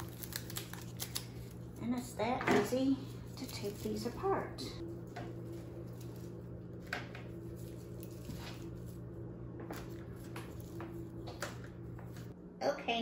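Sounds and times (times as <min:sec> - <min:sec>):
artificial stems rustling: 0:00.0 - 0:12.3
steady low hum: 0:00.0 - 0:13.0.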